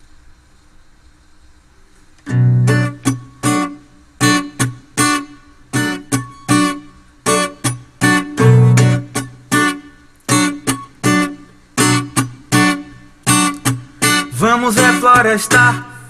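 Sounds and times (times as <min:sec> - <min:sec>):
acoustic guitar strumming: 0:02.2 - 0:16.0.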